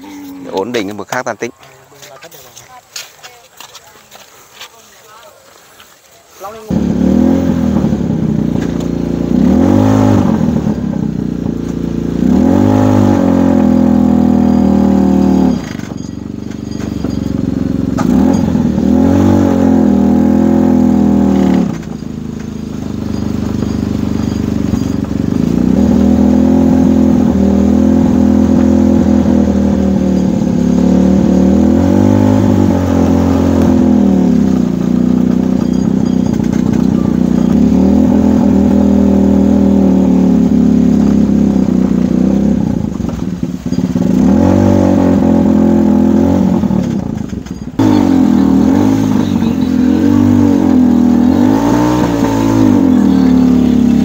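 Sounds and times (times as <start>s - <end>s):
car engine revving: 6.6s - 54.0s.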